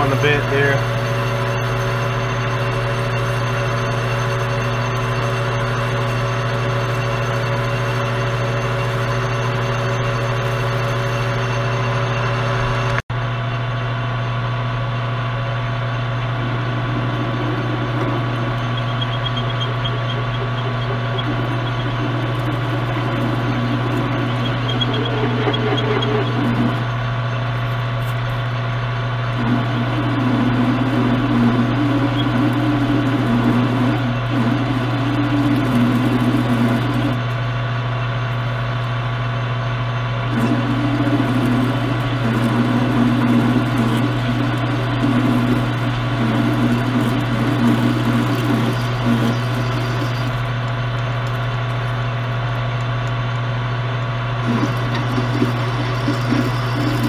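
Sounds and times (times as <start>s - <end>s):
drill bit boring metal: 0.0s - 13.0s, 16.2s - 28.5s, 29.2s - 37.5s, 40.3s - 53.3s, 54.1s - 57.0s
metal lathe running: 0.0s - 13.0s, 14.8s - 57.0s.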